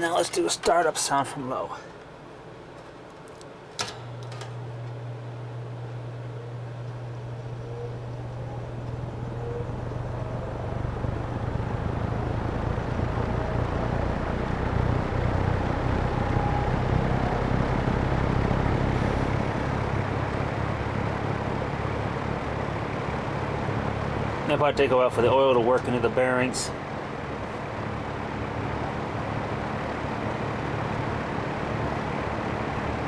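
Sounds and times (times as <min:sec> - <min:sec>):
box fan motor humming: 0:00.0 - 0:33.0
locomotive rumble: 0:00.0 - 0:33.0.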